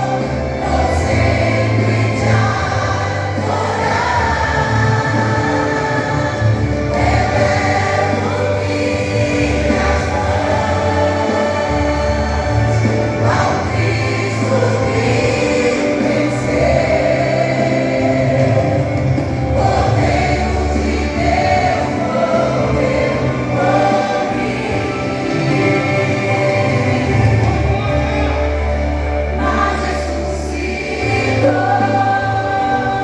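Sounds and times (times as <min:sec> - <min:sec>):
vocal group singing a hymn: 0:00.0 - 0:33.0.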